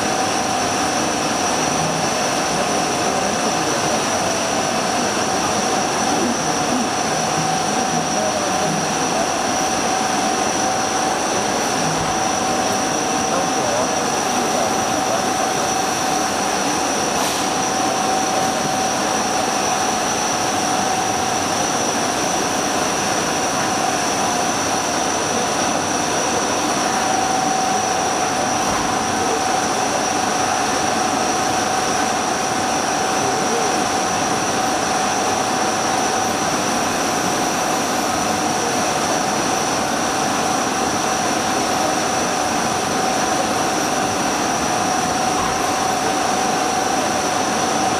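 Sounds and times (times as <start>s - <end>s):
high-pitched tooling whine: 0.0s - 47.9s
machining noise: 0.0s - 47.9s
mid-pitched spindle whine: 0.0s - 47.9s.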